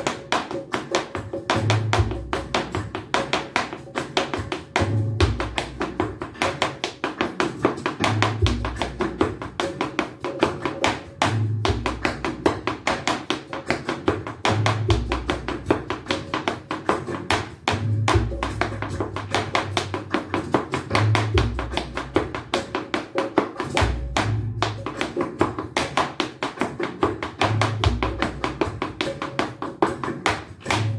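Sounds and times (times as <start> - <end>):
backing music track: 0.0 - 30.9
dance shoes striking hard floor: 0.0 - 30.9.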